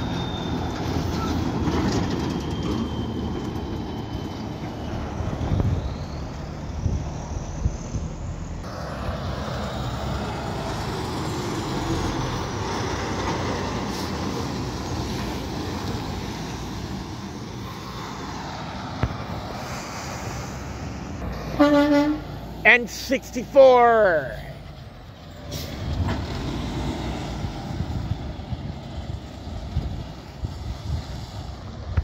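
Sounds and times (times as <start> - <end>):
trucks driving past: 0.0 - 32.0.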